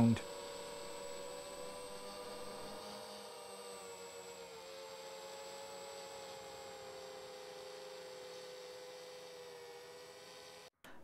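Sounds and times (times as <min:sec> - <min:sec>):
faint whining hum: 0:00.0 - 0:11.0.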